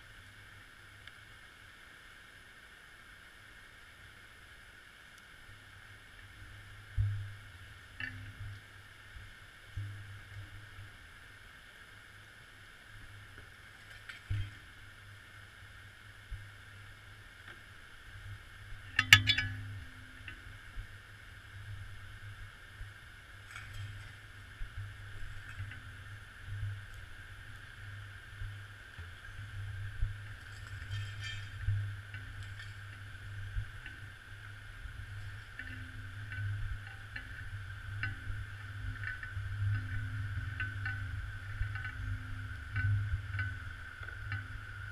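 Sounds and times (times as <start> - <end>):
low underwater hum: 0.0 - 44.9.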